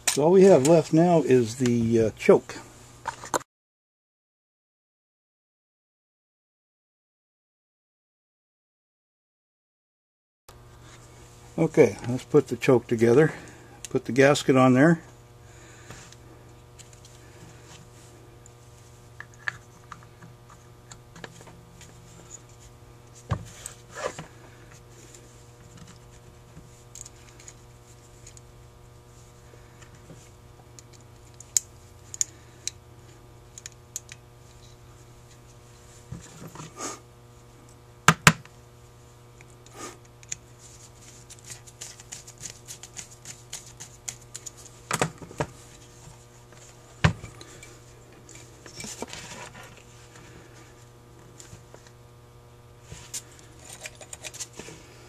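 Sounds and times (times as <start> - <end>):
steady low hum: 10.5 - 55.0.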